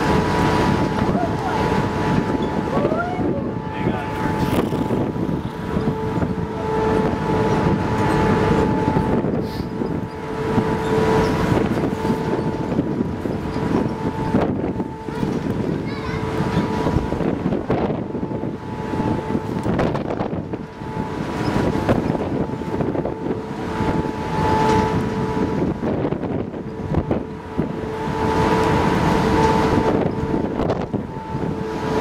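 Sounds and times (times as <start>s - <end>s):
ship two-note hum: 0.0s - 32.0s
wind gusting over microphone: 0.0s - 32.0s.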